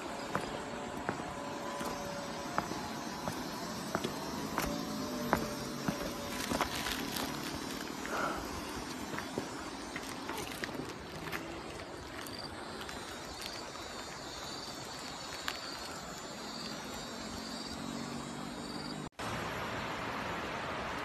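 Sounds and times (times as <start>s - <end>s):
high insect chirps: 0.0s - 19.1s.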